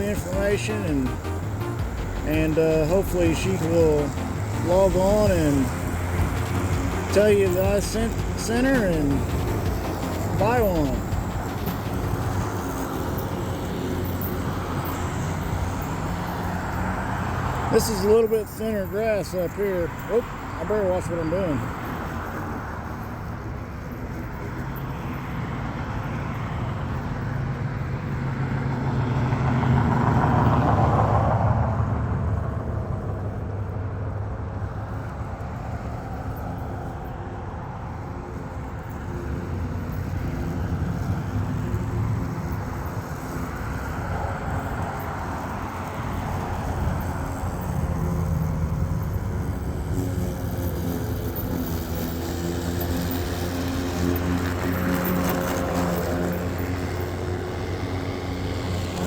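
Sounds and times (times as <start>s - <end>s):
road traffic going by: 0.0s - 59.0s.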